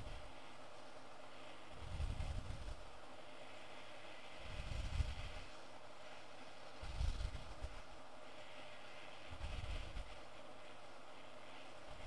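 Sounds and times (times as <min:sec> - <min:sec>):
low rumble of moving air: 0:00.0 - 0:12.0.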